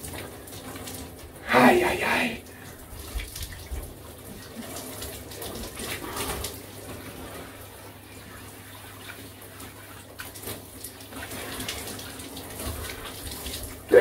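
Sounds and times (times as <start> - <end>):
water splashing on tiled floor: 0.0 - 1.4, 2.4 - 14.0.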